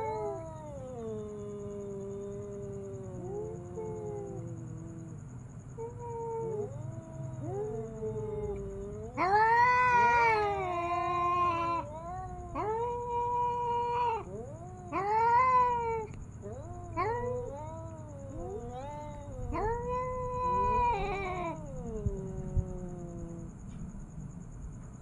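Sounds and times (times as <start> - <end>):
tomcats caterwauling: 0.0 - 23.7.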